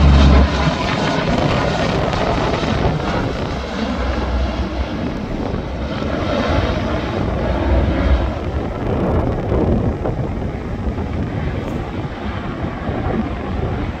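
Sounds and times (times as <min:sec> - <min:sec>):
turboprop plane engines: 0:00.0 - 0:14.0.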